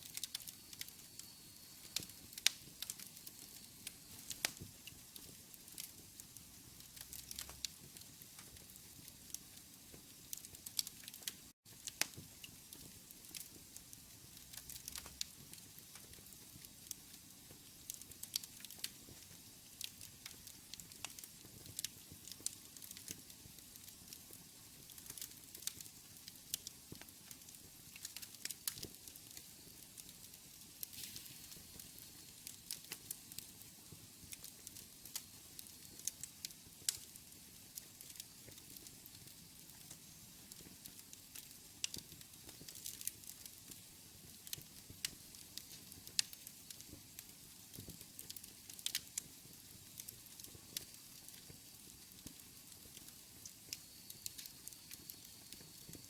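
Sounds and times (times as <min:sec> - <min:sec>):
fire hiss: 0:00.0 - 0:56.0
wood fire crackling: 0:00.0 - 0:56.0.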